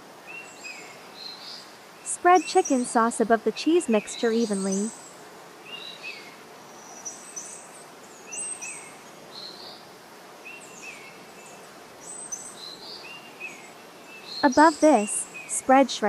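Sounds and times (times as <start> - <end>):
steady background hiss: 0.0 - 16.0
birds chirping: 0.3 - 9.8, 10.4 - 16.0.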